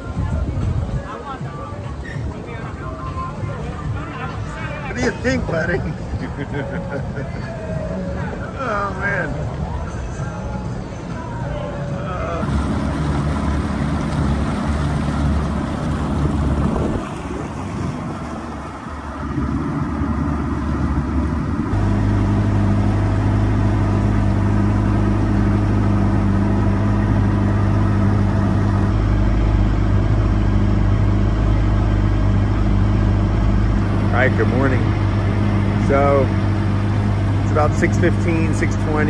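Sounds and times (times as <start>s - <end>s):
outboard motor running: 0.0s - 9.9s, 11.9s - 39.0s
water noise: 0.0s - 39.0s
wind: 0.0s - 39.0s.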